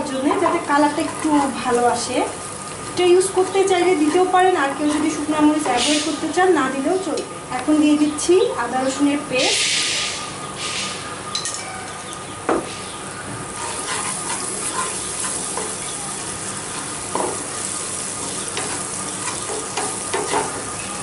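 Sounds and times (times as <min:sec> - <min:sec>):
onions sizzling in hot oil: 0:00.0 - 0:11.0, 0:12.7 - 0:21.0.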